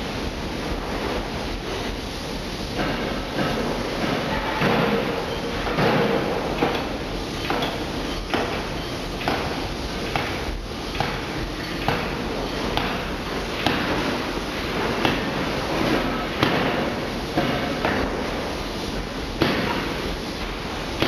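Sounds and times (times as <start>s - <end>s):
factory hum: 0.0s - 21.0s.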